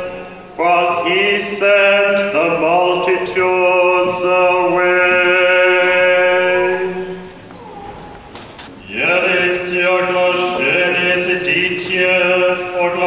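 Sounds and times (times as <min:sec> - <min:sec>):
liturgical chant in long notes: 0:00.0 - 0:08.1, 0:08.8 - 0:13.0.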